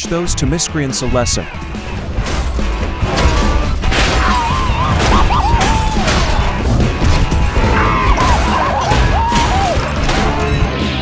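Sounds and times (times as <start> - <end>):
background music: 0.0 - 11.0
fight hits and crashes: 1.6 - 11.0.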